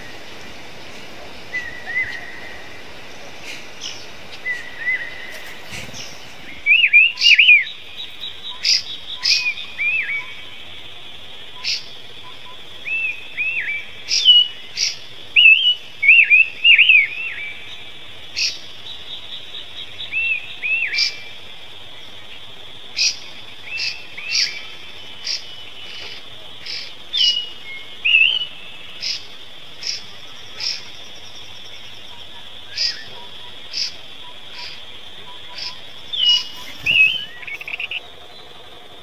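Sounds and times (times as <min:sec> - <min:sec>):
bird chirping: 0:00.0 - 0:39.0.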